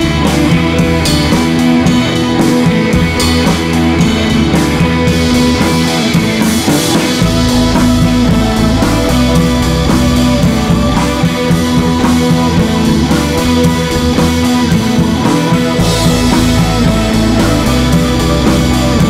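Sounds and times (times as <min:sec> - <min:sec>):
rock music with guitar and drums: 0:00.0 - 0:19.0.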